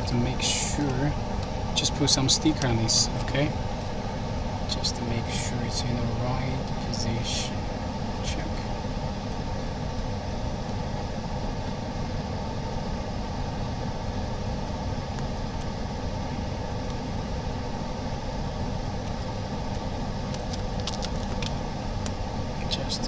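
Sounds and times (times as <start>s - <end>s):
machine humming and hissing: 0.0s - 23.0s.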